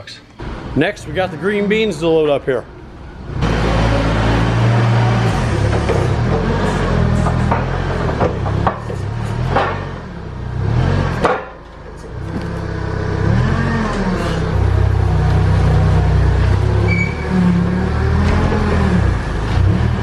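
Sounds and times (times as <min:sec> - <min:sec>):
forklift engine revving: 0:00.4 - 0:20.0.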